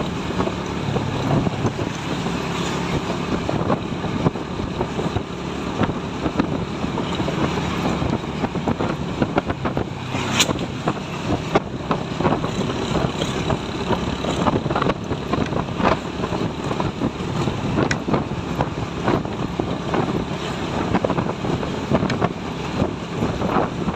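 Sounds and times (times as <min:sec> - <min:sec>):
truck engine running: 0:00.0 - 0:23.9
wind buffeting microphone: 0:00.0 - 0:23.9.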